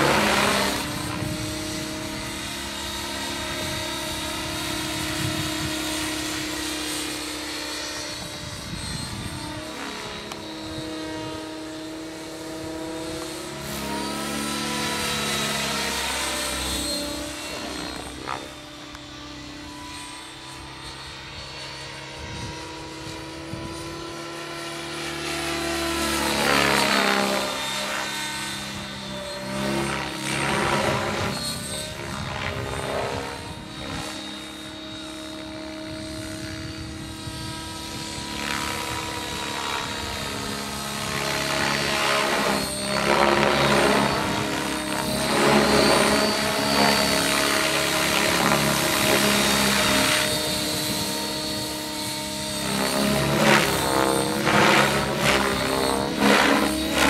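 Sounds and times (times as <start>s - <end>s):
electric motor whine: 0.0s - 57.0s
helicopter rotor whoosh: 0.0s - 57.0s.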